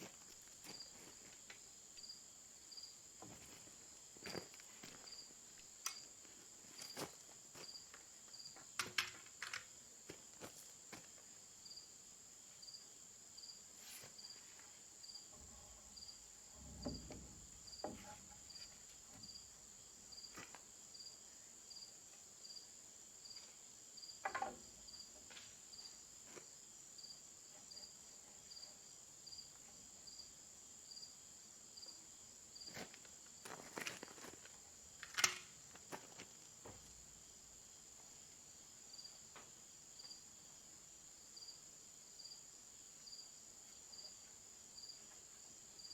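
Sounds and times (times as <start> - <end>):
cricket chirping: 0.0 - 45.9
insects droning: 0.0 - 45.9.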